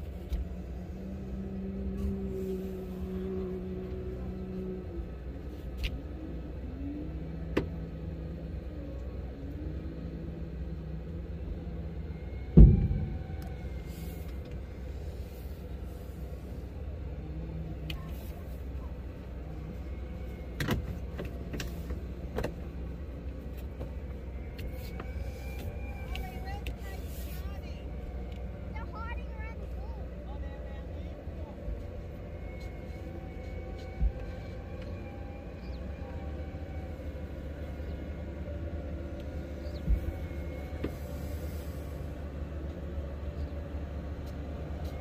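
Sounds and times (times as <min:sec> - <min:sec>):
engine running low: 0:00.0 - 0:45.0.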